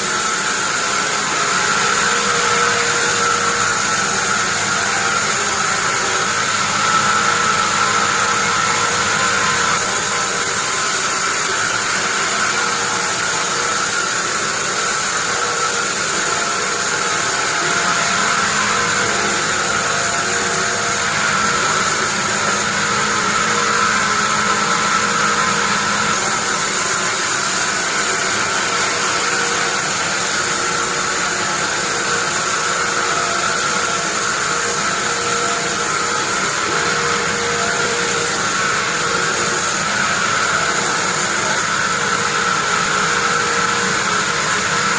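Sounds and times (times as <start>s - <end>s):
bandsaw running: 0.0s - 44.9s.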